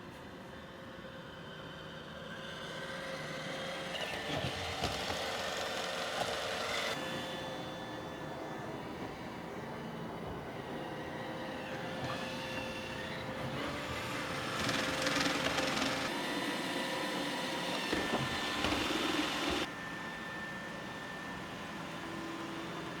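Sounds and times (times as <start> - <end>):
robot vacuum running: 2.2 - 23.0.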